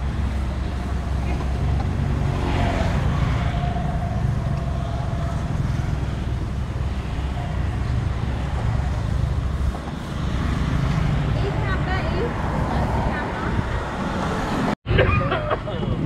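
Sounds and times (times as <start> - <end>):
traffic engine rumble: 0.0 - 16.0.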